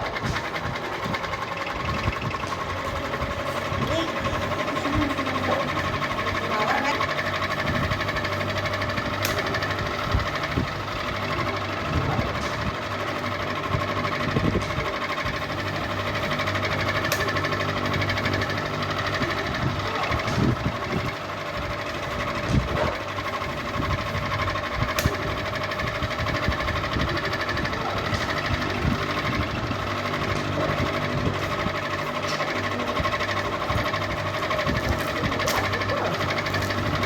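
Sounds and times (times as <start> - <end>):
ceiling fan humming: 0.0 - 37.0.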